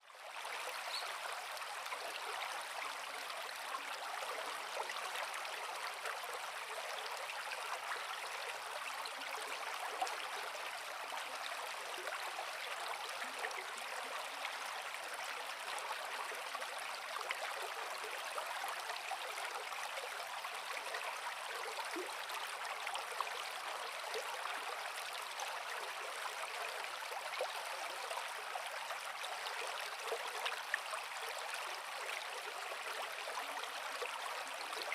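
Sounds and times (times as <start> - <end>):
creek water flowing over rocks: 0.0 - 34.9.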